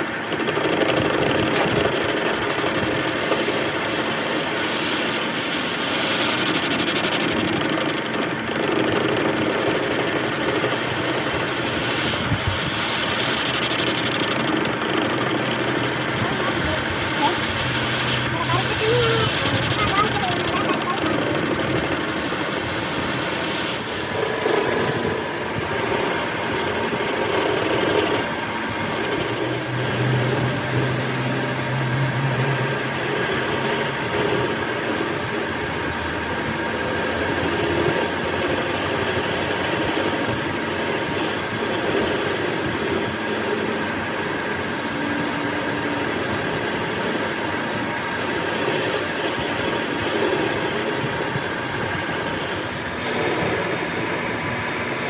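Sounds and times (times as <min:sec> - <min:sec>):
workshop machinery running: 0:00.0 - 0:55.0
low hum: 0:08.0 - 0:55.0.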